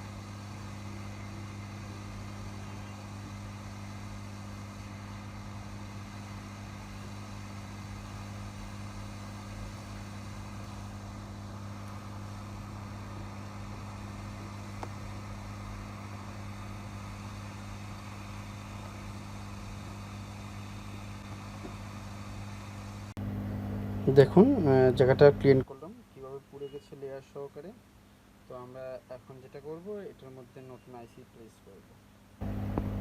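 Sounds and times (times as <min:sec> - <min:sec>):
electrical equipment hum: 0:00.0 - 0:33.0.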